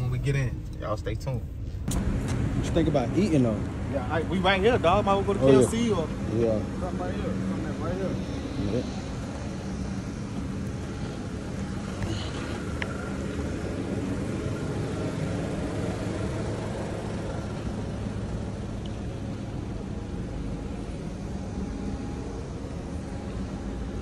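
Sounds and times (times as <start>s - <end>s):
faint constant hum: 0.0s - 24.0s
road traffic rumble: 0.0s - 24.0s.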